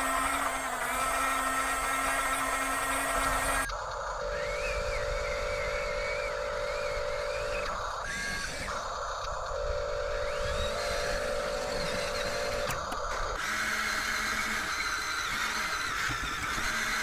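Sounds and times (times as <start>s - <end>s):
toy electric motors whining: 0.0s - 17.0s.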